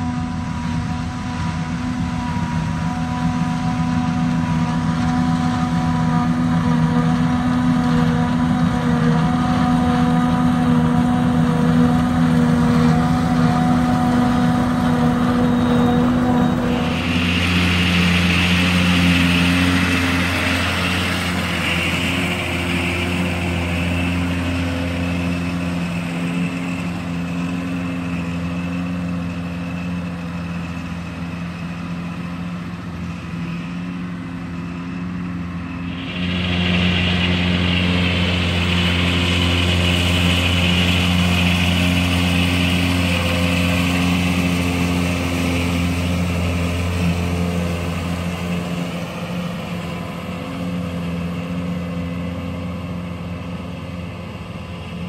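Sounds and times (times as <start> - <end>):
windrower engine drone: 0.0 - 55.0.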